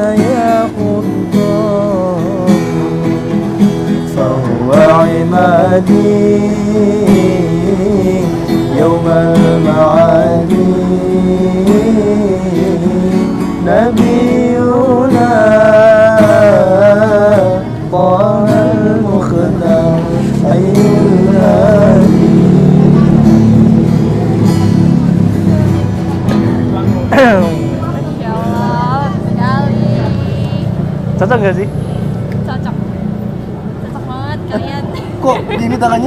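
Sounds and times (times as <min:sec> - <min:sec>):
acoustic guitar chords: 0:00.0 - 0:36.0.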